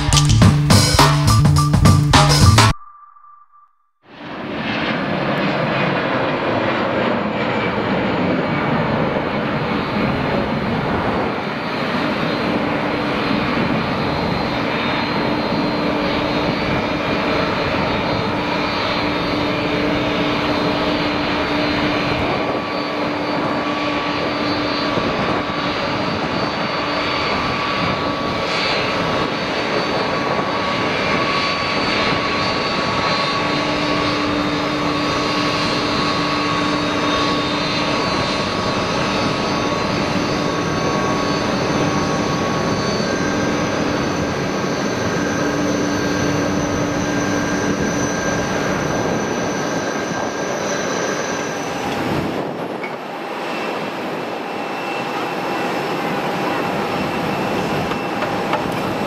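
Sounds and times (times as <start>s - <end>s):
high jet engine whine: 2.4s - 59.0s
jet engines roaring: 4.1s - 59.0s.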